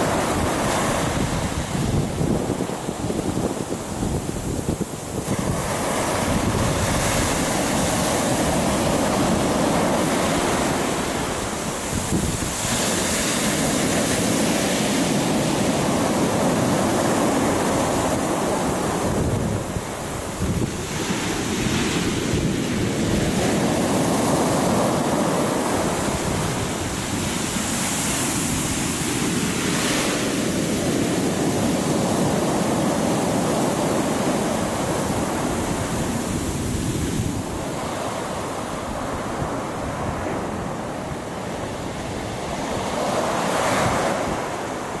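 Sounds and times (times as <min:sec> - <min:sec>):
sea waves breaking on beach: 0:00.0 - 0:45.0
wind buffeting microphone: 0:00.0 - 0:45.0.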